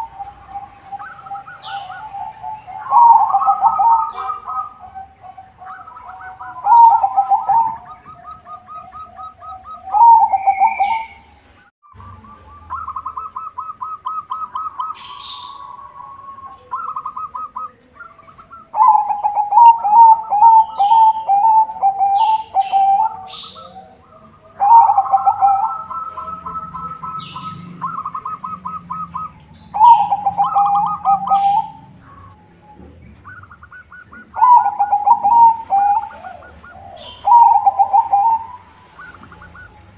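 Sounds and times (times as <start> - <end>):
bird chirping: 0.0 - 39.9
dove cooing: 0.0 - 39.9.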